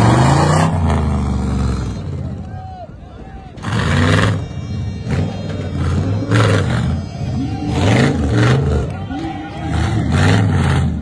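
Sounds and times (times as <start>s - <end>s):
buggy engine revving hard: 0.0s - 2.3s, 3.6s - 8.9s, 9.5s - 11.0s.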